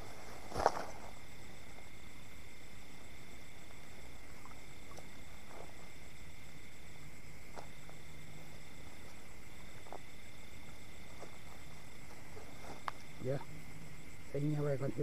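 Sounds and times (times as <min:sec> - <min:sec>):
crickets calling: 0:00.0 - 0:15.0
low steady background noise: 0:00.0 - 0:15.0.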